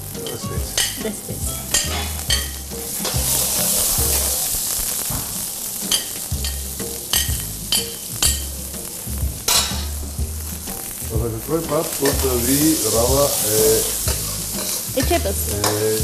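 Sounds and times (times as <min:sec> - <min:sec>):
vegetables sizzling in a wok: 0:00.0 - 0:16.0.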